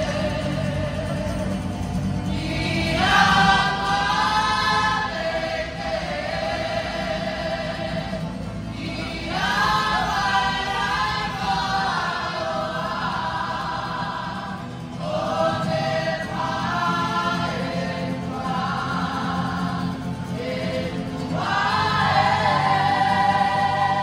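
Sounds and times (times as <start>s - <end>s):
group of voices singing in harmony: 0.0s - 24.0s.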